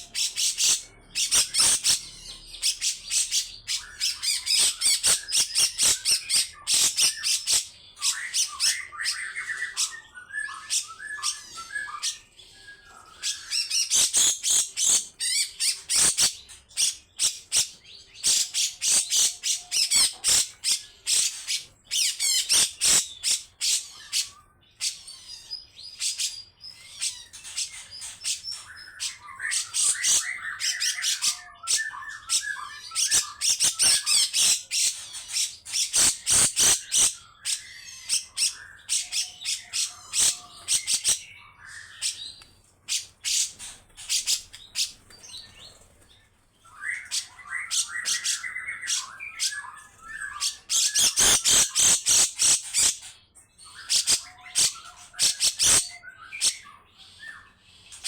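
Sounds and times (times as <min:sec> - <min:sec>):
bird harsh rasping calls: 0:00.0 - 0:12.4, 0:13.1 - 0:45.9, 0:46.7 - 0:58.0.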